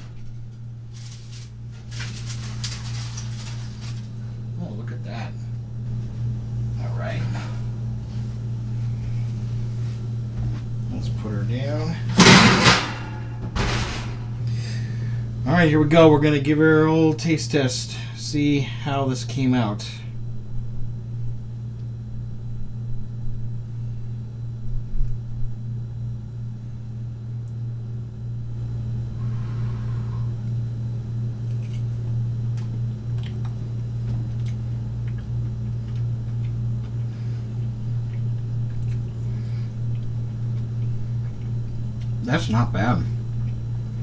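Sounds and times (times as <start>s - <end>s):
low appliance hum: 0.0s - 44.0s.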